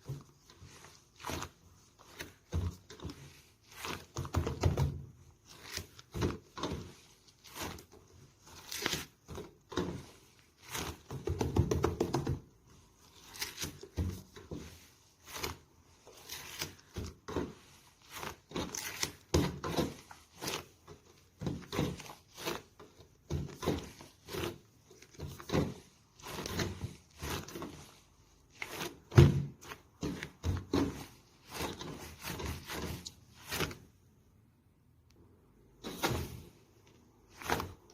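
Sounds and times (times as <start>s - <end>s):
slime squishing: 0.0s - 34.4s, 35.6s - 37.9s.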